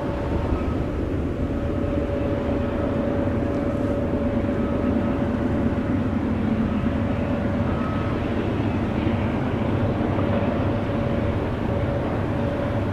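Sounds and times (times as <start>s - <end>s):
freight train rumbling past: 0.0s - 12.9s.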